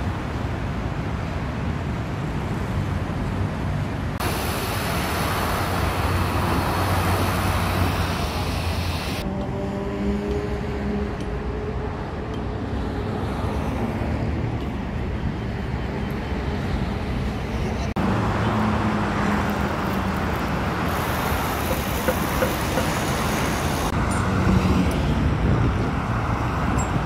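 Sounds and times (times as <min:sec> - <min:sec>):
highway traffic passing: 0:00.0 - 0:27.0.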